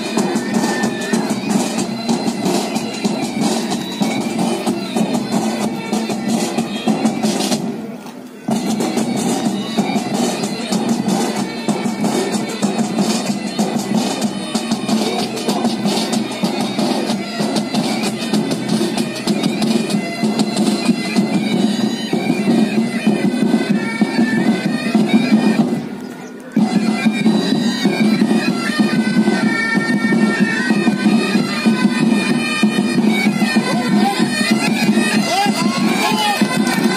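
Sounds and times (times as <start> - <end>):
bagpipes playing a march: 0.0 - 36.9
drum strokes: 0.0 - 36.9.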